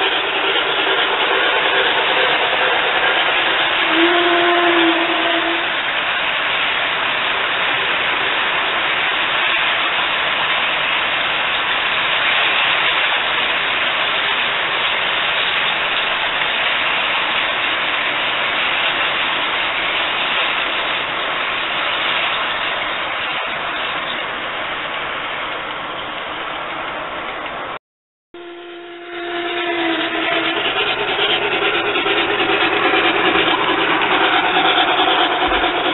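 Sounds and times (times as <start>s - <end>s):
model train wheels rolling on track: 0.0s - 27.8s, 28.4s - 35.9s.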